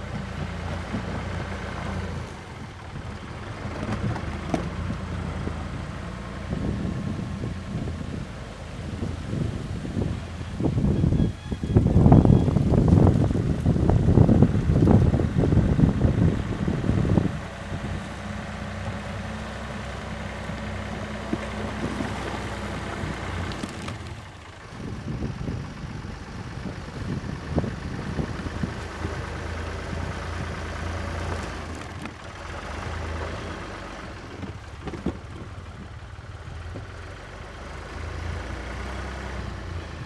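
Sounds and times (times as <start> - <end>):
backhoe engine running: 0.0 - 40.0.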